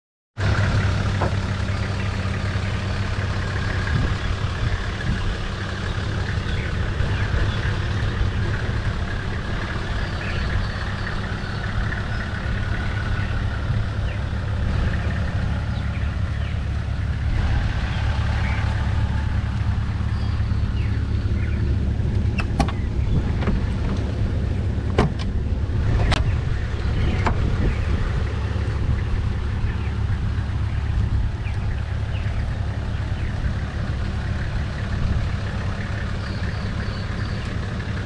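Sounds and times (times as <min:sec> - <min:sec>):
diesel engine idling: 0:00.4 - 0:38.0.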